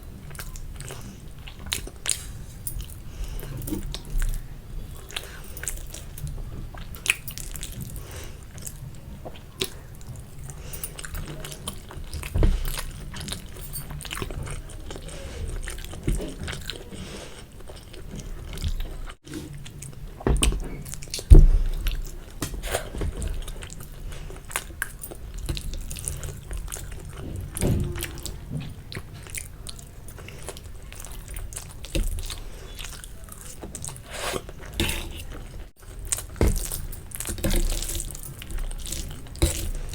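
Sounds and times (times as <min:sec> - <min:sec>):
chewing and mouth sounds: 0:00.1 - 0:39.9.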